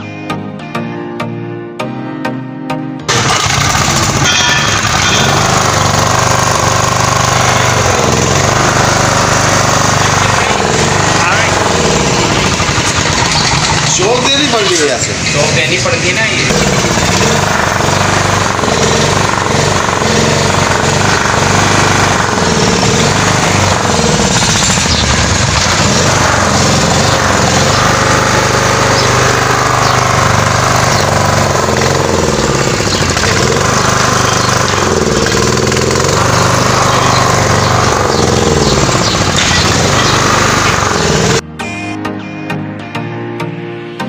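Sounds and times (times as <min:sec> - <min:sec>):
generator engine running: 0:03.1 - 0:41.4.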